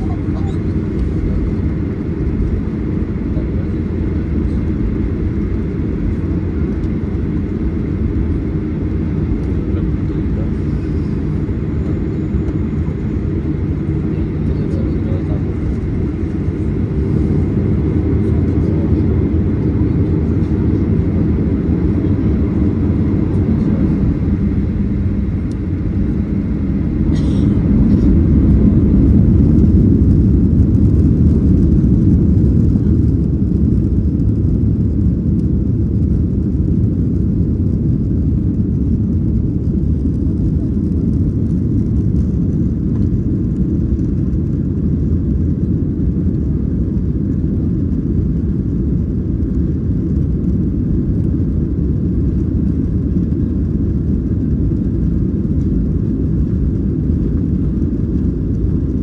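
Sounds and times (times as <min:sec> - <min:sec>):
jet engines at takeoff power: 0:00.0 - 0:59.0.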